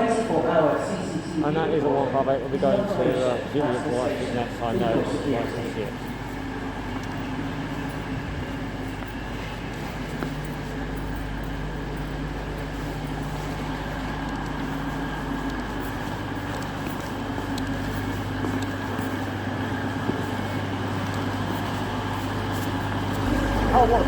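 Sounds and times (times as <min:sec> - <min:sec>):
diesel train engine idling: 0:00.0 - 0:24.0.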